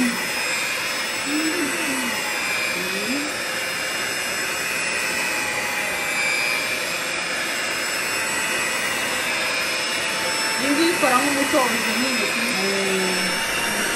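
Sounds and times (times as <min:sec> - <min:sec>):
electric hand mixer whipping batter: 0:00.0 - 0:13.9.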